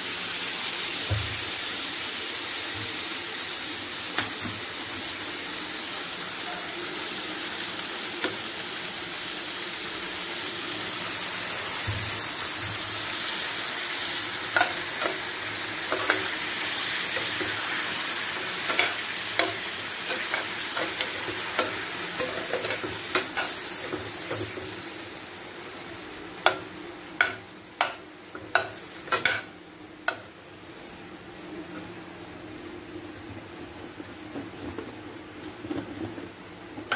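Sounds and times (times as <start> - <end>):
chicken sizzling in pan: 0.0 - 36.2.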